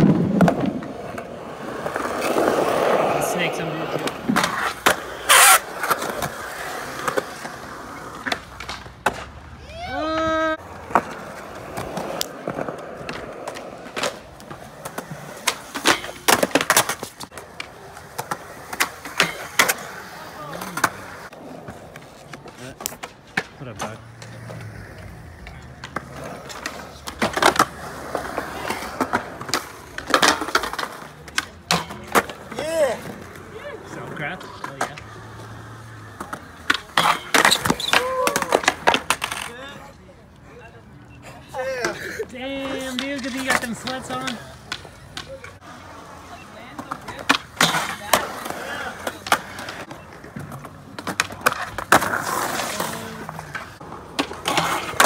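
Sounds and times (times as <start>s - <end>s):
skateboards clacking on concrete: 0.0s - 55.0s.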